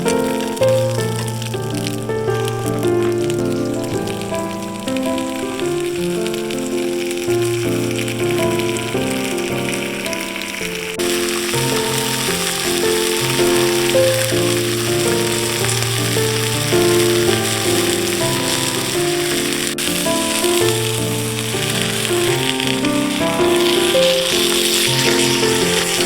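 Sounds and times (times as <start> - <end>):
background music melody: 0.0 - 26.0
food frying sizzle: 0.0 - 26.0.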